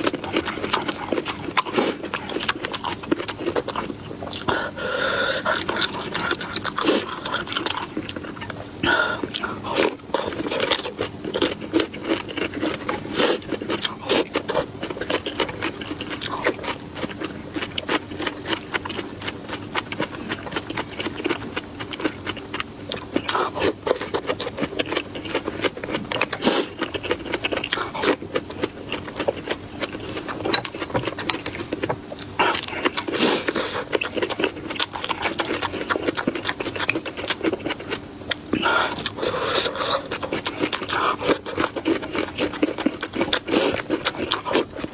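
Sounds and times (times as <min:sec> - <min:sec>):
chewing food: 0:00.0 - 0:44.9.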